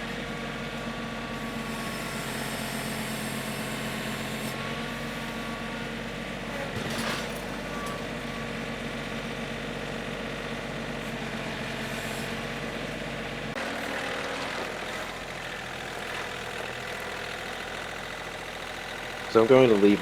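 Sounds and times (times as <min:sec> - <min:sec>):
sawmill engine running: 0:00.0 - 0:20.0.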